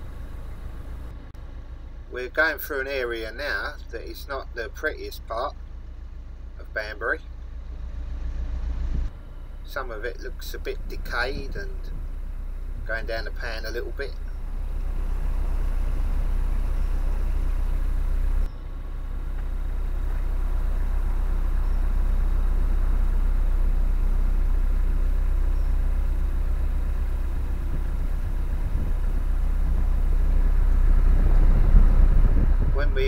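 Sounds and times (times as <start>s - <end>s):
diesel boat engine rumbling: 0.0s - 33.0s.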